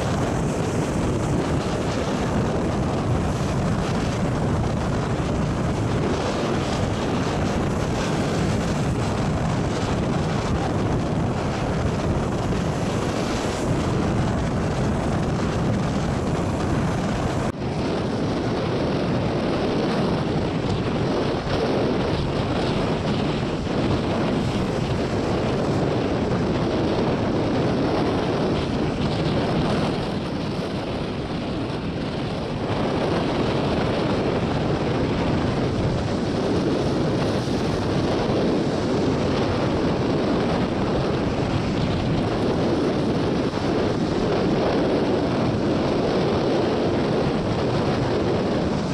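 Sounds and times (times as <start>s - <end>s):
surf breaking on rocks: 0.0s - 17.6s, 19.5s - 30.7s, 33.0s - 46.2s
wind blowing on microphone: 0.0s - 48.9s.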